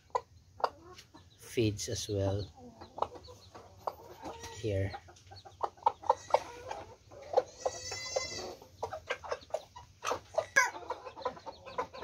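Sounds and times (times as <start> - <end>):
rooster clucking: 2.2 - 12.0.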